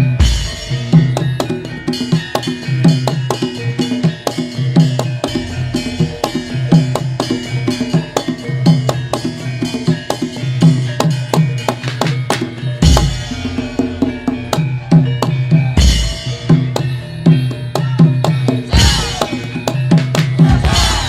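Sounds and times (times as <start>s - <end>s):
drum and percussion rhythm: 0.0s - 21.0s
ringing pitched tones: 0.0s - 21.0s
sharp clacking strikes: 0.0s - 21.0s.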